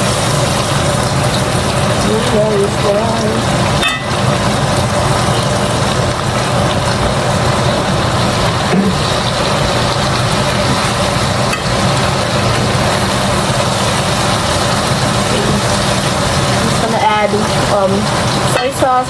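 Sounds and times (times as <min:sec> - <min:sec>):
stir-fry rushing noise with hum: 0:00.0 - 0:19.0.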